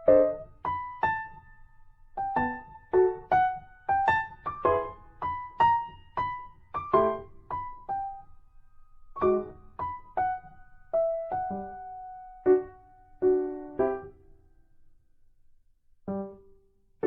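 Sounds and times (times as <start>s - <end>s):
piano-like keyboard melody: 0.0s - 8.4s, 9.1s - 14.5s, 16.1s - 16.6s.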